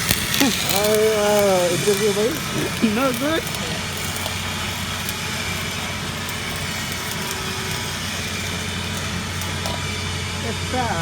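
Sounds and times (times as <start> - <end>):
constant hiss: 0.0 - 11.0
low machine hum: 0.0 - 11.0.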